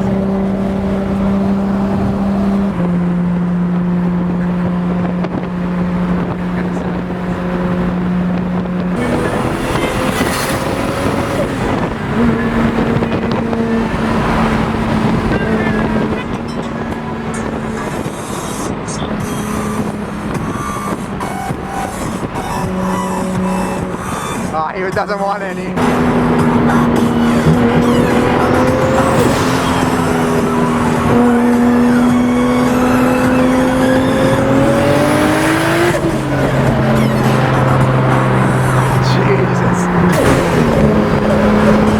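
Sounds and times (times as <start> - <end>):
car engine droning: 0.0 - 41.9
wind and road noise: 0.0 - 41.9.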